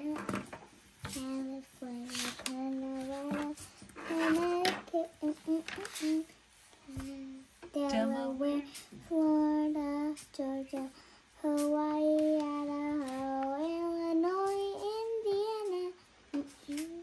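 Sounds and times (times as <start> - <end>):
young child singing: 0.0 - 17.0.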